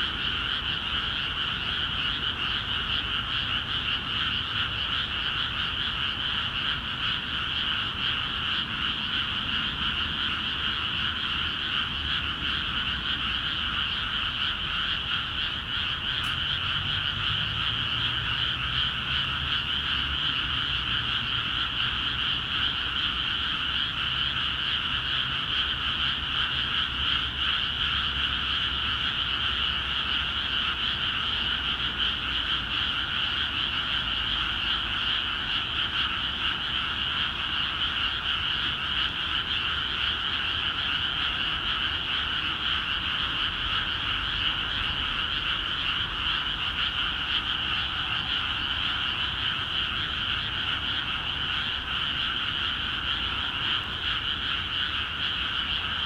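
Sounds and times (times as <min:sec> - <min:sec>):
chorus of frogs croaking: 0:00.0 - 0:56.0.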